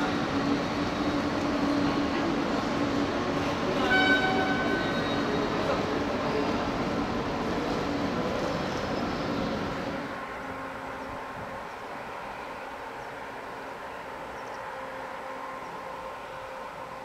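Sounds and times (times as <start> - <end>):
electric railcar tones: 0.0 - 17.0
station hall rumble: 0.0 - 17.0.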